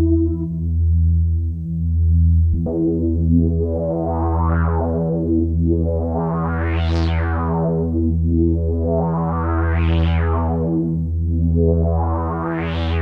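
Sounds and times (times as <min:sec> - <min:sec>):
low synth bass note: 0:00.0 - 0:13.0
synthesizer chord with filter sweeps: 0:00.0 - 0:13.0.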